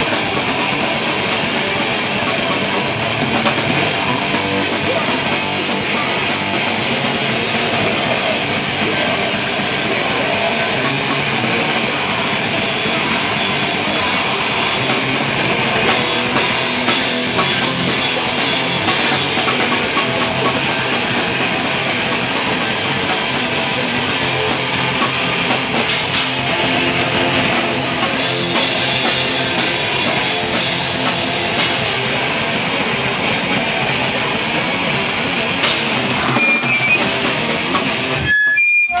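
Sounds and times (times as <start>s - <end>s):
drum kit pounding: 0.0s - 38.3s
electric guitars: 0.0s - 39.0s
live rock band playing: 0.0s - 39.0s.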